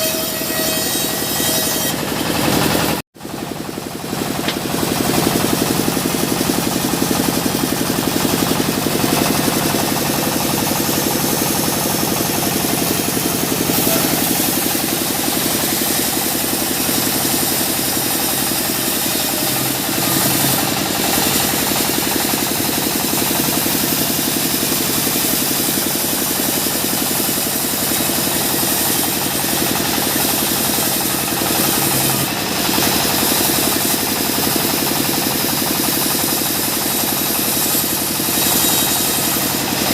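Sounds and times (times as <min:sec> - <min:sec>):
engine-driven saw running: 0:00.0 - 0:39.9.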